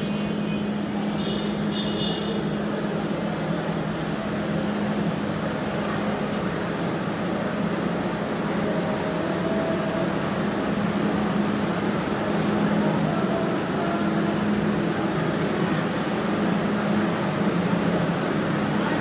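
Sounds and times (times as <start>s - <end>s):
train engine droning: 0.0s - 19.0s.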